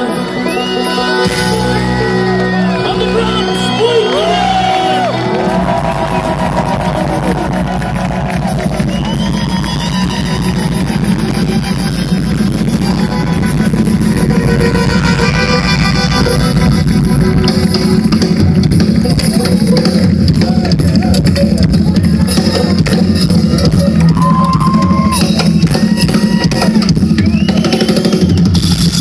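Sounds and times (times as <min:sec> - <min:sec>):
strummed strings rhythm: 0:00.0 - 0:27.3.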